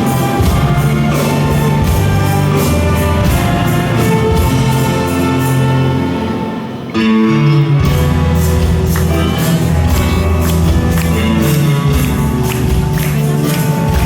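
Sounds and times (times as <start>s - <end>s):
steady percussion beat: 0.0s - 6.9s, 7.8s - 14.0s
orchestra playing chords: 0.0s - 14.0s.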